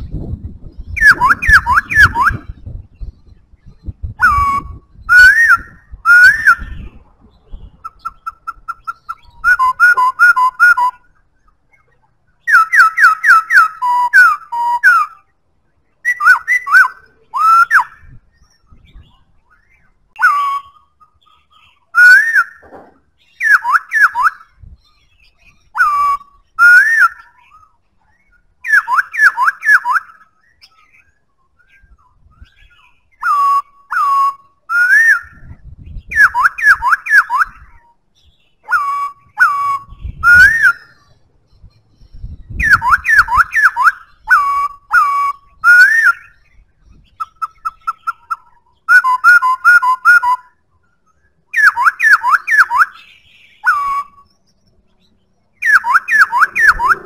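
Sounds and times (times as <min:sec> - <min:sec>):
rapid repeated bird notes: 0:00.0 - 0:57.0
bird singing whistled phrases: 0:00.8 - 0:15.3, 0:16.0 - 0:22.6, 0:23.2 - 0:57.0.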